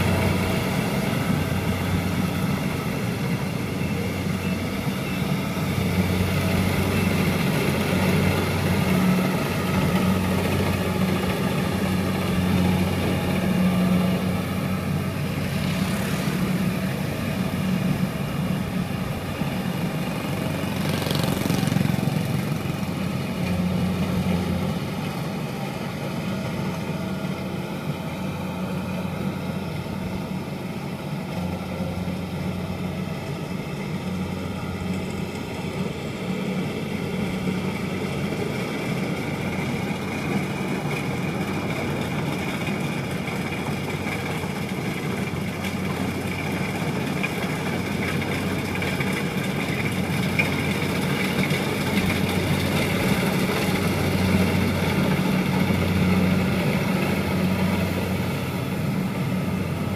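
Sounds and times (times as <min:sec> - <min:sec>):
harvester diesel engine running: 0:00.0 - 0:59.9.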